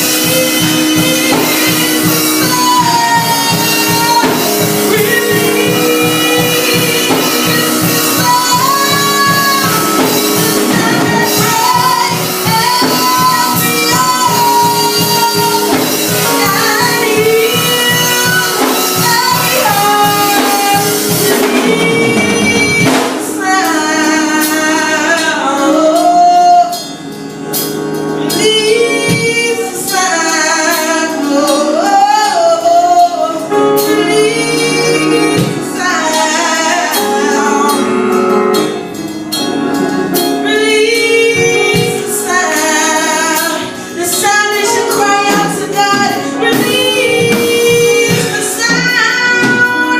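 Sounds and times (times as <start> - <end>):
woman singing: 0.0 - 27.1, 28.2 - 39.0, 39.7 - 49.9
voices singing worship music: 0.0 - 49.9.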